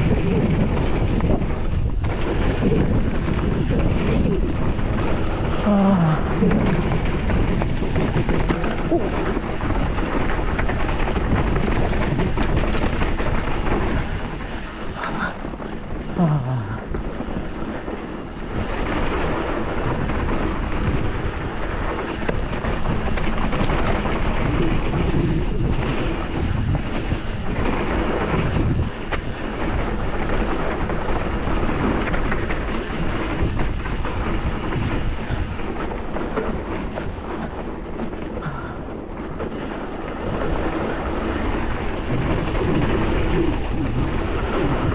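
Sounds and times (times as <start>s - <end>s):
bike tyres rolling on dirt: 0.0s - 44.9s
wind on microphone: 0.0s - 44.9s.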